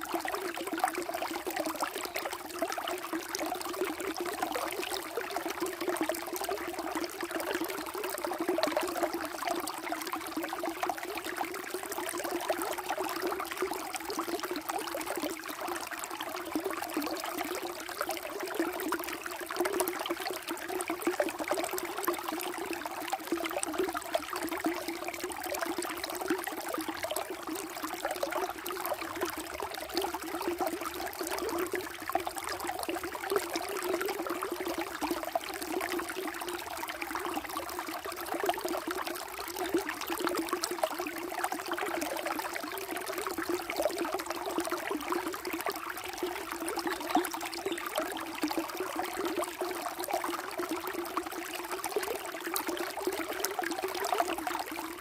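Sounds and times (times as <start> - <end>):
water trickling in a stream: 0.0 - 55.0.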